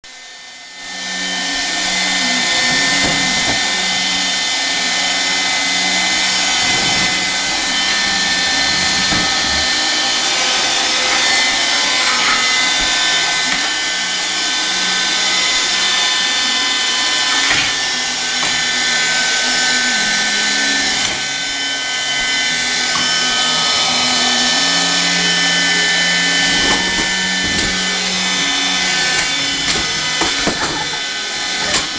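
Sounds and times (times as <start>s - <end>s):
vacuum cleaner motor whine: 0.1s - 31.9s.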